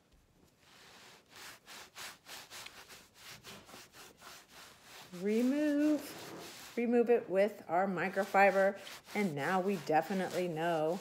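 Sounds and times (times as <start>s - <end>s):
cloth rubbing on cutting board: 0.6s - 11.0s.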